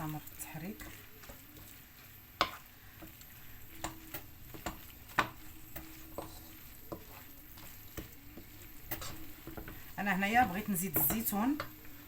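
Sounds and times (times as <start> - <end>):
faint sizzle: 0.0 - 12.0
spoon scraping a frying pan: 0.0 - 12.0.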